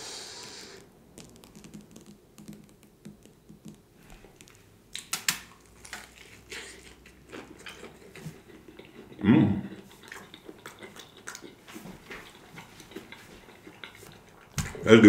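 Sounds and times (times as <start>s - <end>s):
person chewing food: 0.4s - 14.9s.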